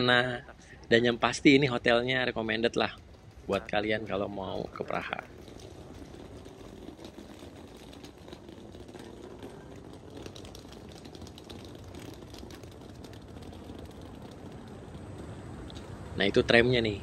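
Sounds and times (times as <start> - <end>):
car engine and road noise: 0.0 - 17.0
faint ticks and rattles: 0.0 - 17.0.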